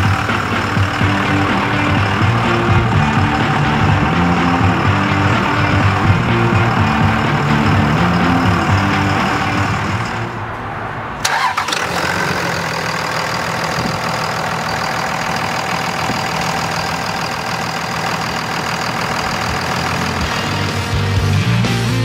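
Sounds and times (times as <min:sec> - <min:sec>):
diesel truck engine starting and idling: 0:00.0 - 0:22.0.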